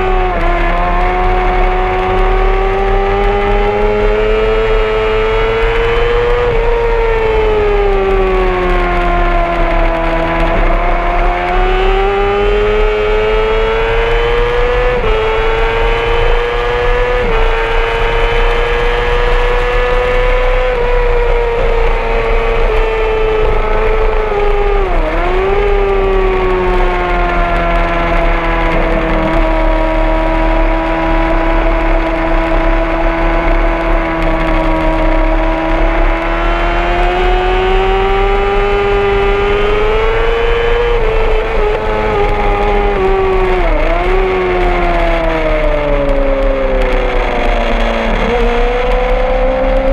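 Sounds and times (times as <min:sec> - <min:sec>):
motorcycle engine revving high: 0:00.0 - 0:49.9.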